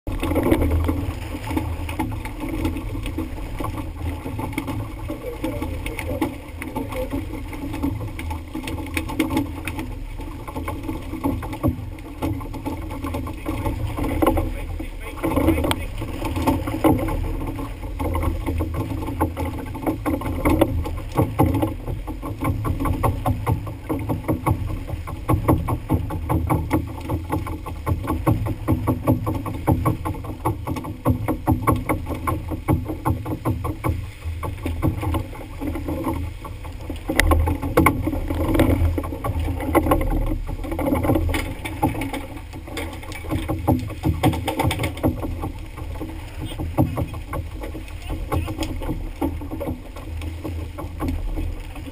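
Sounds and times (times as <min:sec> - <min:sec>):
boat engine rumble: 0:00.0 - 0:51.9.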